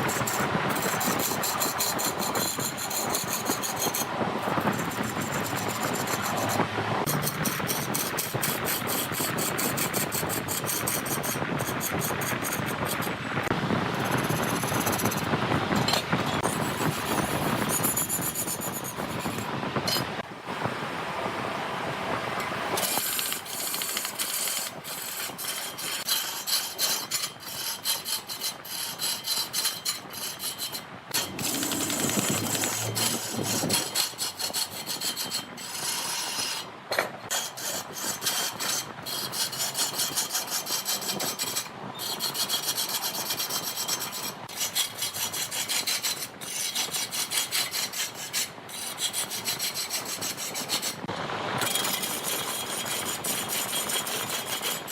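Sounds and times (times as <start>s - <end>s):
lathe tool rasping on wood: 0.0s - 13.2s, 14.0s - 20.0s, 22.8s - 36.7s, 37.3s - 51.0s, 51.6s - 54.9s.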